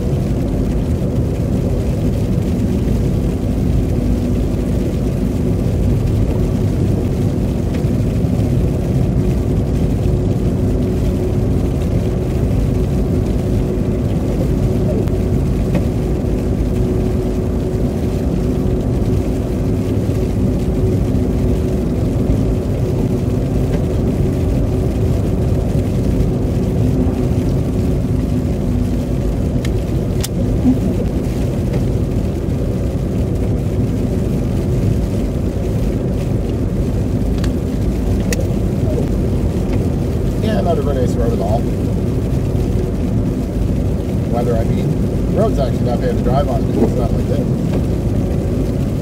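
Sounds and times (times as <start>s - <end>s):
car road and engine noise: 0.0s - 49.0s.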